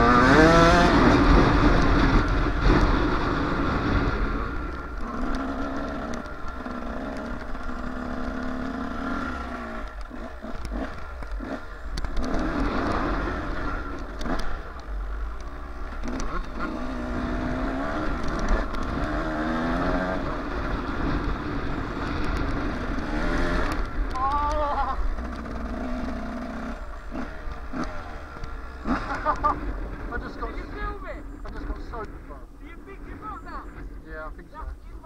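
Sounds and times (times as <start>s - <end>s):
two-stroke dirt bike revving: 0.0s - 34.0s.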